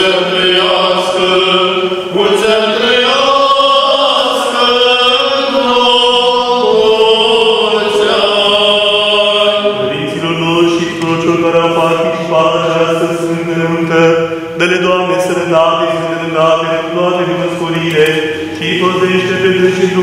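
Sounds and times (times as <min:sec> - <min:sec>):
choir chanting long notes: 0:00.0 - 0:20.0.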